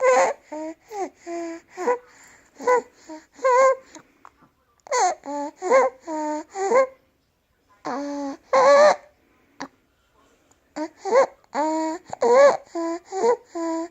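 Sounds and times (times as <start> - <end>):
infant squeaky breathing: 0.0 - 4.0, 4.9 - 7.0, 7.8 - 9.7, 10.8 - 13.9.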